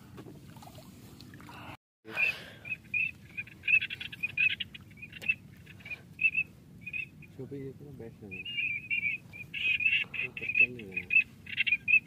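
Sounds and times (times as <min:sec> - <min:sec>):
low outdoor background: 0:00.0 - 0:12.0
high chirping bird calls: 0:02.2 - 0:12.0.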